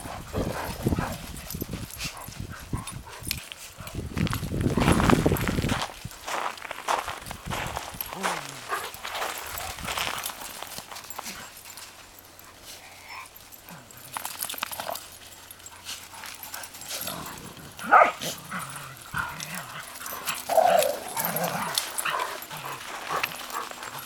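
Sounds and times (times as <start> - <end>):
dogs barking at play: 0.0 - 4.1, 8.0 - 24.0.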